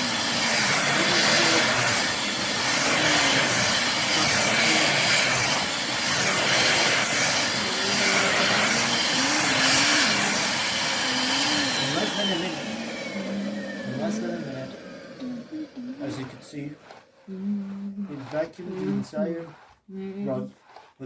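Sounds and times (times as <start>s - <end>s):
vacuum cleaner running: 0.0s - 19.3s.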